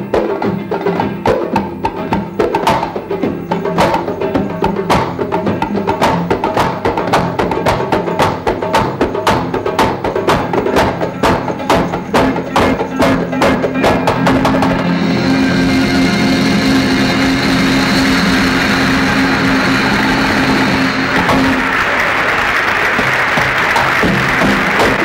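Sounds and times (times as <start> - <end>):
held melody notes: 0.0 - 22.0
frame drums: 0.0 - 25.0.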